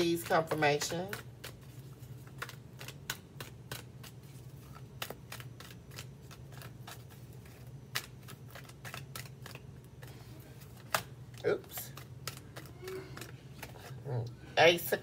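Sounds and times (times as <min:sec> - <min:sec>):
cards being shuffled: 0:00.0 - 0:14.2
faint low hum: 0:00.0 - 0:15.0.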